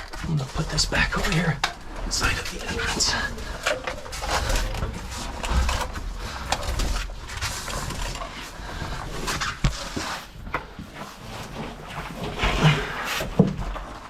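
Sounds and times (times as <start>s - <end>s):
gear scraping and rustling: 0.0s - 14.0s.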